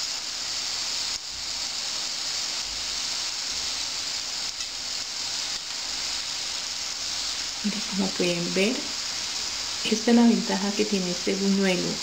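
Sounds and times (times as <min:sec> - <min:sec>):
oil sizzling in deep frying: 0:00.0 - 0:12.0.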